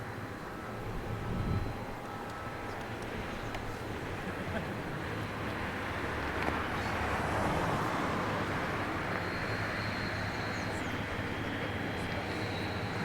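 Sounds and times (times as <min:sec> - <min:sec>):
distant jet engines rushing: 0:00.0 - 0:13.0.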